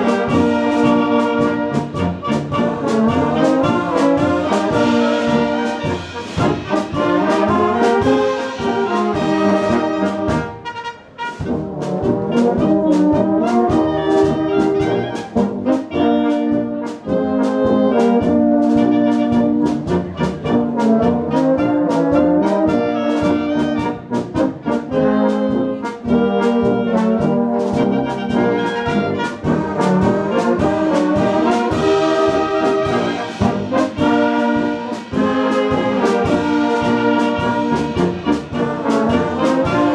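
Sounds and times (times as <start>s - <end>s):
brass band playing: 0.0s - 39.9s.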